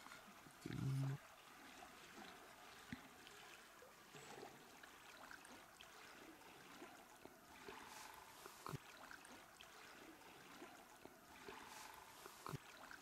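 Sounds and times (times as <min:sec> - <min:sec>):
faint river water murmur: 0:00.0 - 0:13.0.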